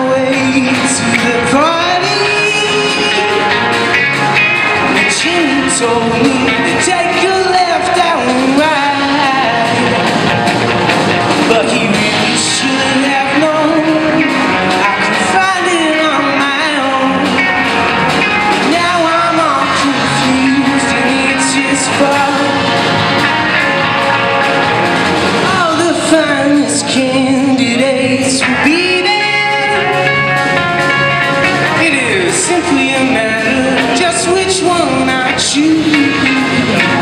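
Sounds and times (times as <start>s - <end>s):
man singing: 0.0s - 10.6s, 11.2s - 24.1s, 25.4s - 37.0s
rock band playing: 0.0s - 37.0s.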